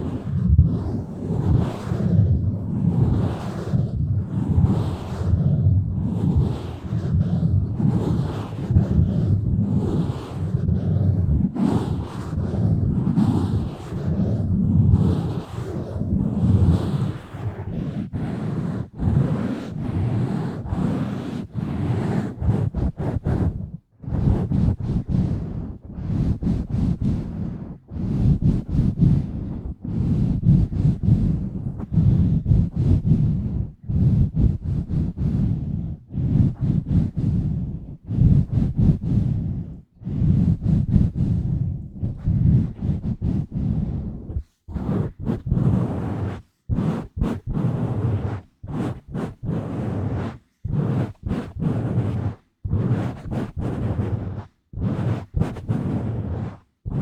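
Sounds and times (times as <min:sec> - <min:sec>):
hands rubbing on microphone: 0:06.2 - 0:57.0.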